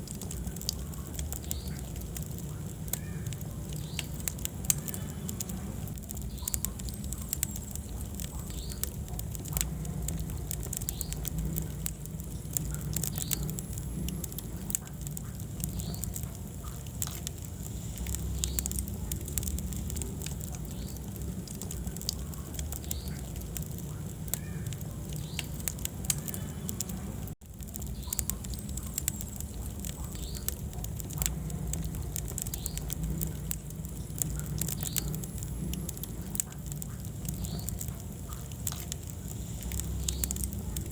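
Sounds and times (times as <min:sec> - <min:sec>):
fire crackling and popping: 0:00.0 - 0:40.9
low rumble of flame: 0:00.0 - 0:40.9.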